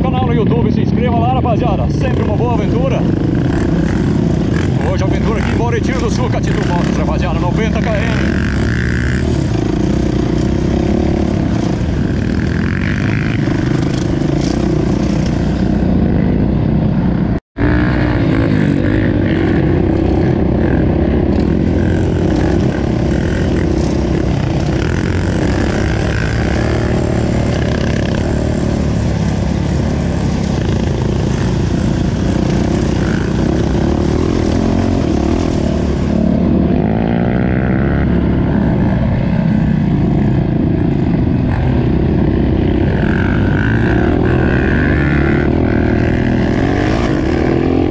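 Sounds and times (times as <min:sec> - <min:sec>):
dirt bike engine revving: 0:01.6 - 0:47.9.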